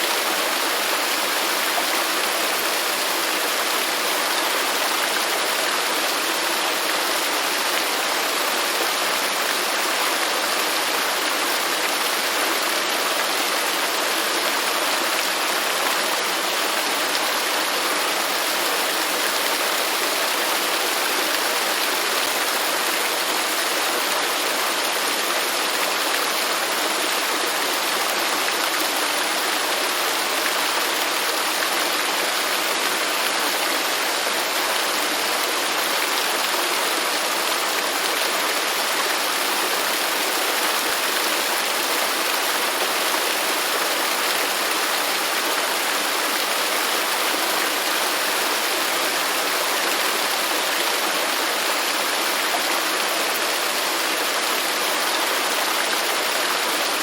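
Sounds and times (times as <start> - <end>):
waterfall roaring: 0.0 - 34.8, 35.6 - 55.0.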